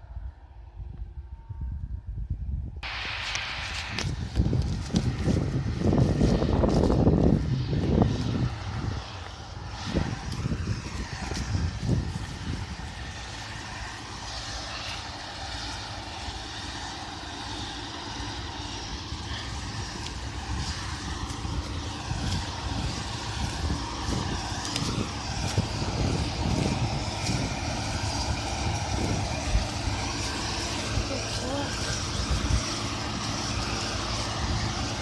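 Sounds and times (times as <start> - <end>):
wind buffeting microphone: 0.0 - 35.0
combine harvester drone: 2.8 - 35.0
stubble rustling underfoot: 3.2 - 35.0.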